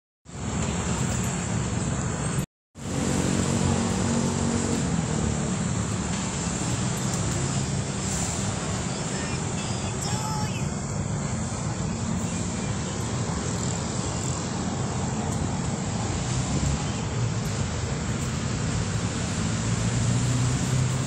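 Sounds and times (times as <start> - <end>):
street traffic rumble: 0.3 - 21.0.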